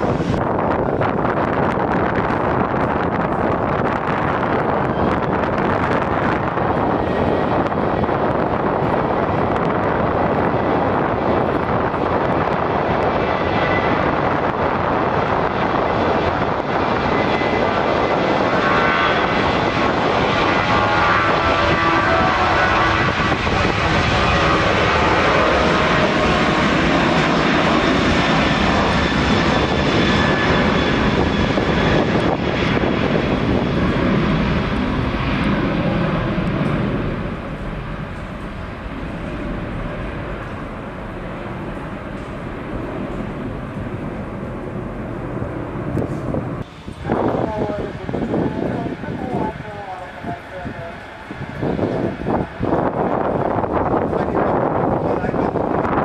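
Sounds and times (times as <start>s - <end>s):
jet engines with high whine: 0.0s - 56.0s.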